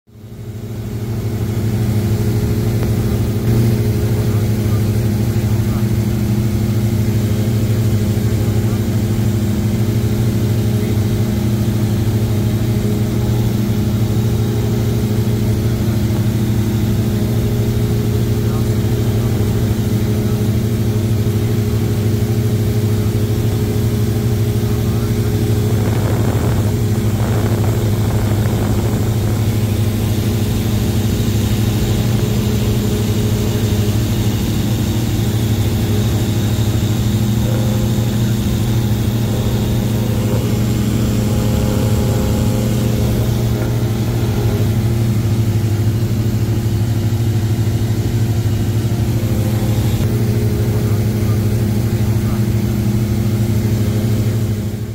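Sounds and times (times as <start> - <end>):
plane engine hum in cabin: 0.1 - 54.9.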